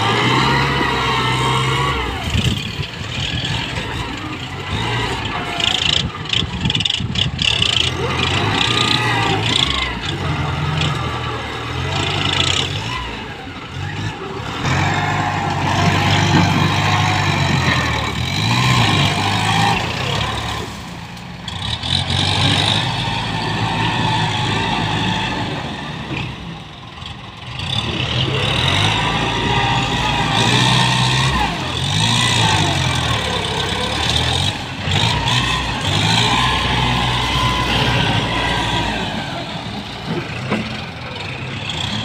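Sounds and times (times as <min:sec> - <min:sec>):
tractor diesel engine revving: 0:00.0 - 0:42.0.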